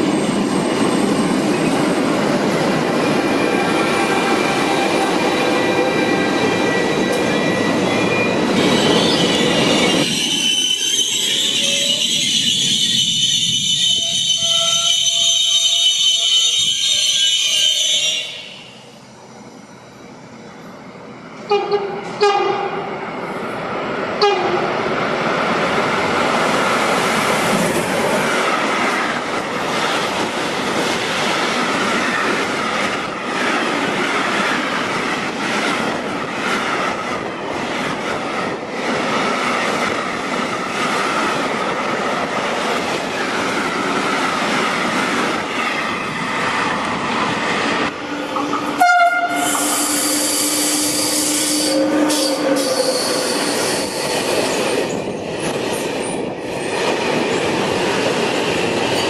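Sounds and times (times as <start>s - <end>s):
freight train rattling on rails: 0.0s - 59.0s
train passing with high squeal: 0.0s - 59.0s.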